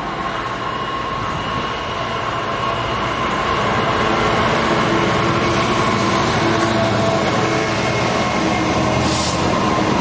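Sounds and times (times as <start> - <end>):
diesel freight train approaching: 0.0 - 10.0.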